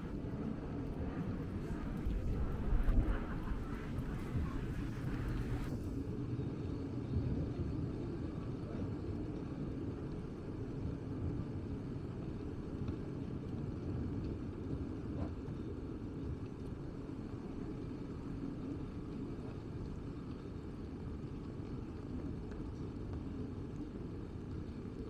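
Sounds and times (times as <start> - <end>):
low rumble of street ambience: 0.0 - 25.0.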